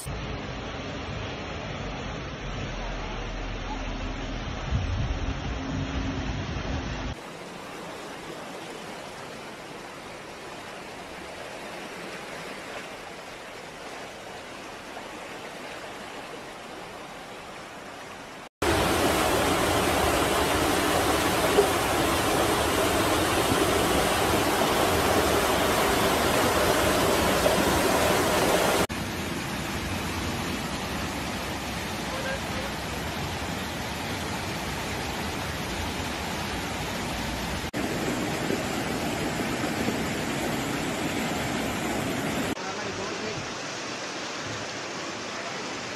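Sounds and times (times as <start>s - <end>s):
rushing floodwater: 7.1s - 45.9s.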